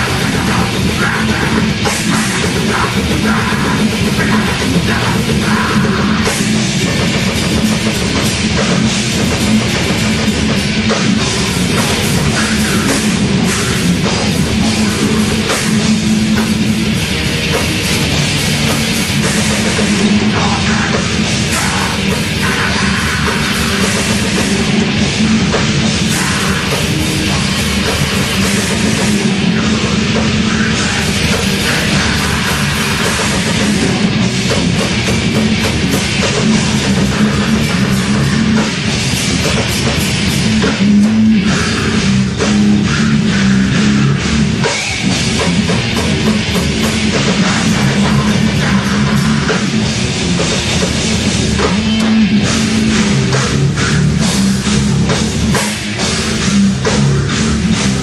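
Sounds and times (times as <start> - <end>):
heavy metal band playing live: 0.0 - 58.0.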